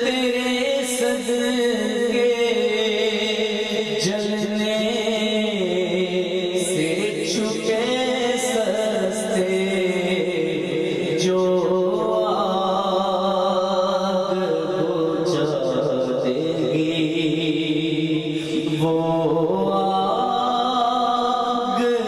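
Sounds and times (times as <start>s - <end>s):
man singing into microphone: 0.0s - 22.0s.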